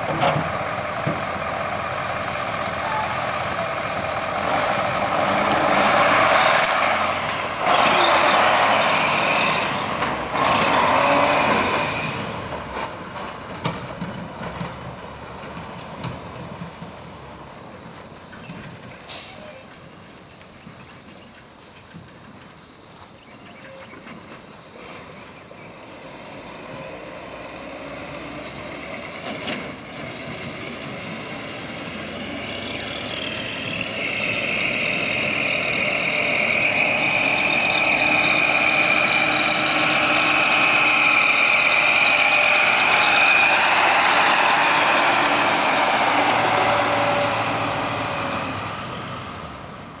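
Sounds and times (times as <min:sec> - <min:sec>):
truck engine driving past: 0:00.0 - 0:50.0.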